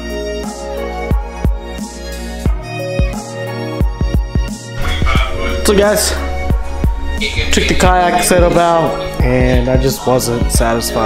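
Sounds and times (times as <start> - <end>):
electronic music with bass drum: 0.0 - 11.0.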